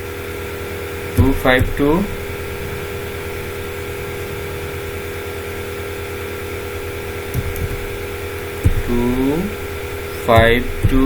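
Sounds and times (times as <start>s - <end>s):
electrical hum with held tones: 0.0s - 11.0s
low rumble: 0.0s - 11.0s
soft low thuds: 0.0s - 11.0s.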